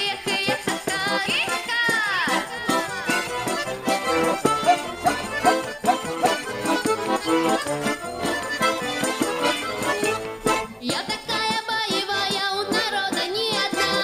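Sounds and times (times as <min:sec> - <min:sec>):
folk dance tune on accordion: 0:00.0 - 0:14.0
percussive beat: 0:00.0 - 0:14.0.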